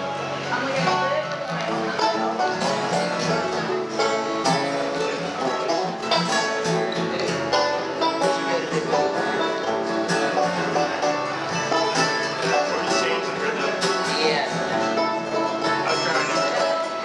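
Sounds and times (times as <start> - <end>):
acoustic guitar strumming: 0.0 - 17.0
banjos playing: 0.0 - 17.0.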